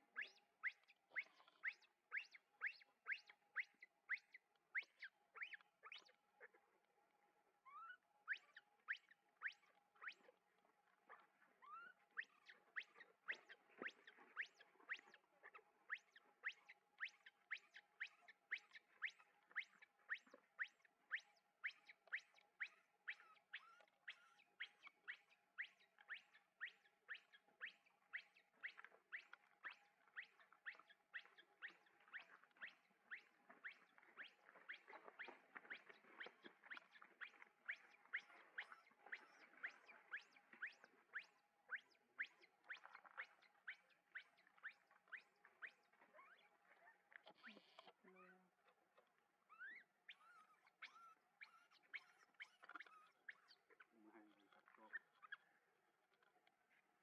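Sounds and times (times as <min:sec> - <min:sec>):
faint high-pitched animal chirps: 0:00.0 - 0:06.9, 0:07.6 - 0:57.0
baby monkey squeaking: 0:00.2 - 0:06.1, 0:07.7 - 0:10.2, 0:11.6 - 0:48.4, 0:49.5 - 0:53.9, 0:54.6 - 0:55.4.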